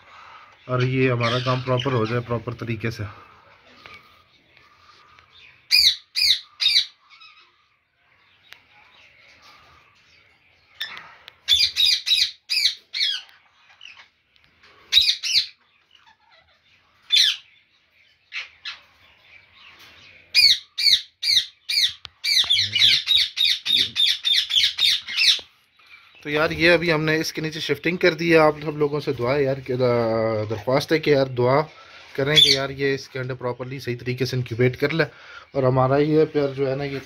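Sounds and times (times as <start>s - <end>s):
parakeets squawking: 0.0s - 8.3s, 9.2s - 37.0s.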